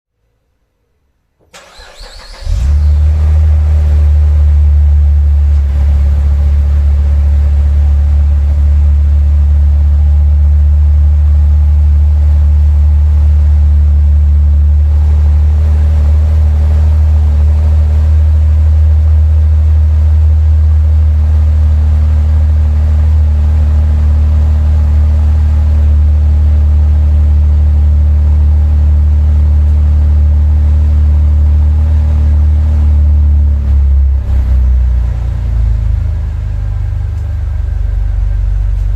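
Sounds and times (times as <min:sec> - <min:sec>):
car engine idling: 0:01.5 - 0:38.9.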